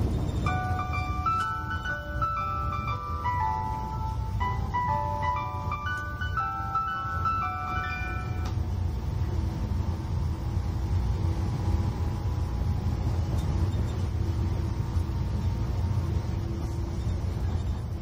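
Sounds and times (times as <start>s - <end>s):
train rumble from inside: 0.0s - 18.0s.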